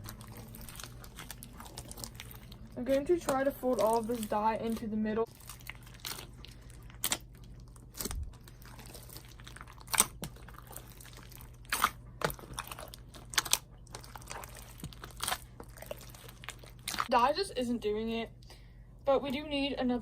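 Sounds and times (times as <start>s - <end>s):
slime squelching: 0.0s - 17.3s
faint low hum: 0.0s - 20.0s.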